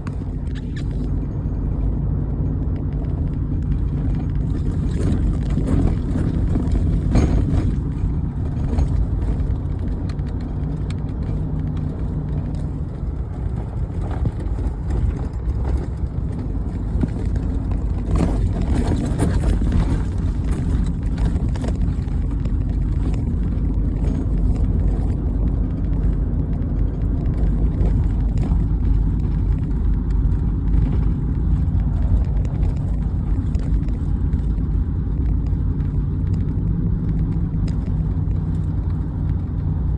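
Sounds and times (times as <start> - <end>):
heavy machine engine rumbling: 0.0 - 39.9.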